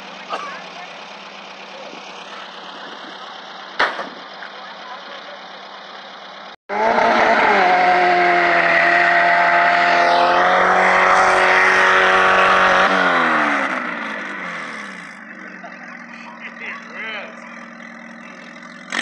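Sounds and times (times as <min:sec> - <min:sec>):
car engine at high revs: 0:00.0 - 0:19.0
tires squealing: 0:00.0 - 0:19.0.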